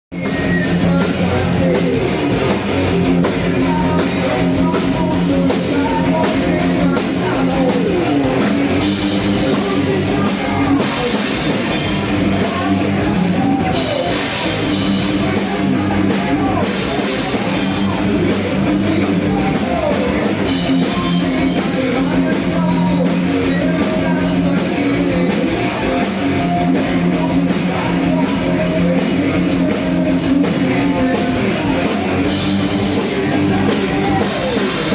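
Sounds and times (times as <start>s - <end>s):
rock band playing heavy metal: 0.1s - 34.9s.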